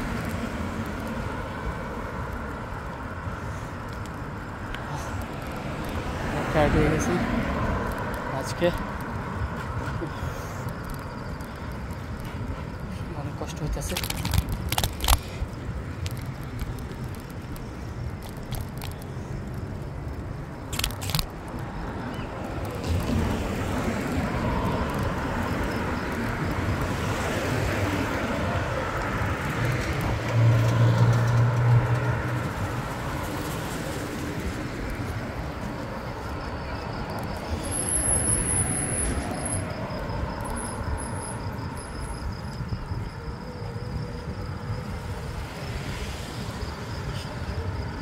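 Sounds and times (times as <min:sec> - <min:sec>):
bicycle road noise: 0:00.0 - 0:48.0
car traffic: 0:00.0 - 0:48.0.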